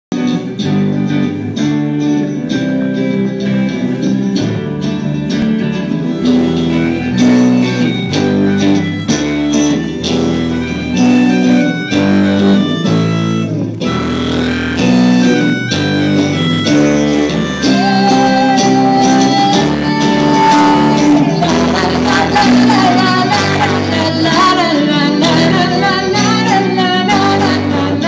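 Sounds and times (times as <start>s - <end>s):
bass guitar: 0.1s - 28.0s
electric guitars: 0.1s - 28.0s.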